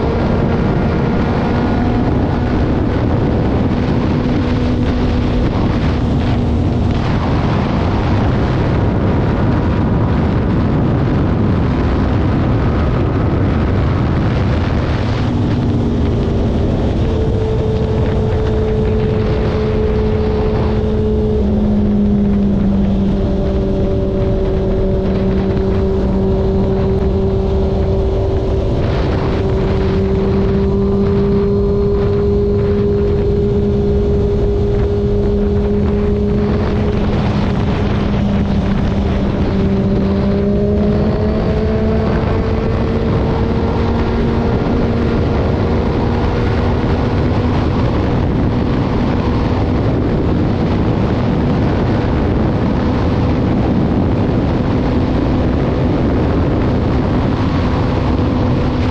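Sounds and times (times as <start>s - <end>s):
motorcycle engine cruising: 0.0s - 58.9s
wind noise on microphone: 0.0s - 58.9s.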